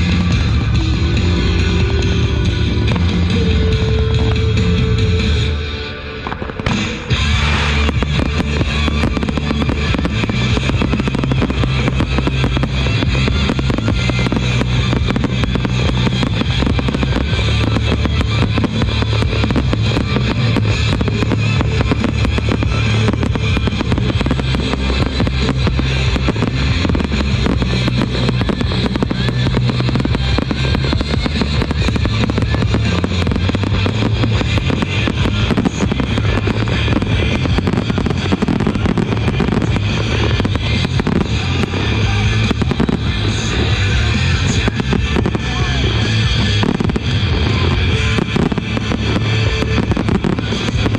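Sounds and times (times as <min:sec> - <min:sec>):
fireworks bangs and crackling: 0:00.0 - 0:50.9
music with steady bass line: 0:00.0 - 0:50.9.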